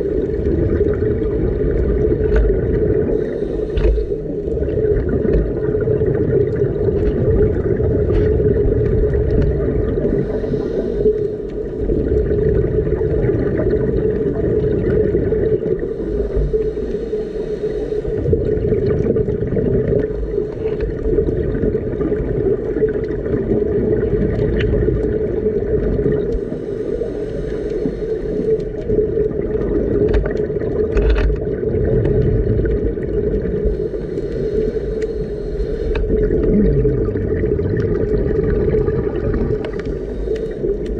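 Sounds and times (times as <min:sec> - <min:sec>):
fizzing exhaled bubbles: 0:00.0 - 0:16.9, 0:18.1 - 0:26.5, 0:27.1 - 0:40.9
constant hum: 0:00.0 - 0:40.9
muffled underwater rumble: 0:00.0 - 0:40.9.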